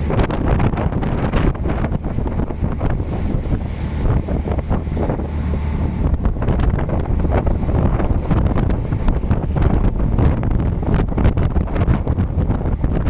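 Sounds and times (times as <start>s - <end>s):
low rumble: 0.0s - 13.0s
waves washing: 0.0s - 13.0s
wind buffeting microphone: 0.0s - 13.0s.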